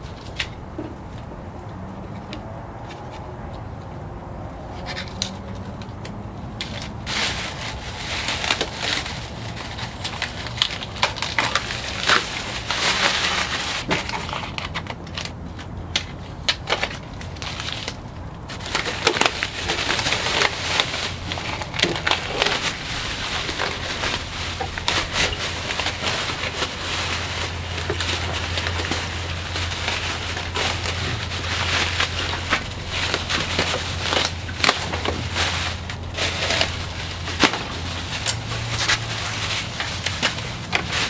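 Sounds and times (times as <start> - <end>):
paper and tape crinkling: 4.8 - 41.0.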